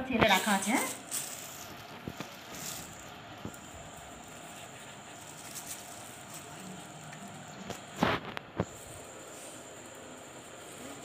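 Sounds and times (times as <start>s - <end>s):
low background noise: 0.0s - 11.0s
plastic bag rustling: 0.2s - 11.0s.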